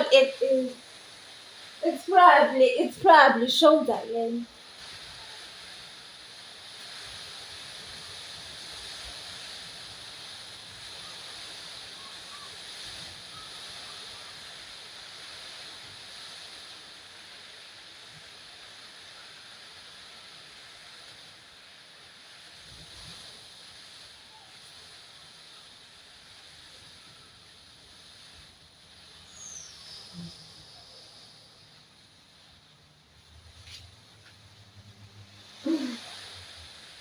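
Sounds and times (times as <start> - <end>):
background hiss: 0.0 - 37.0.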